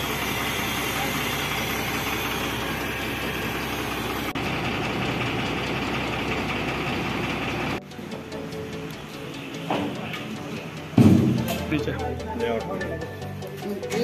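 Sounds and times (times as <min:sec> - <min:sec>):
diesel truck engine idling: 0:00.0 - 0:13.6.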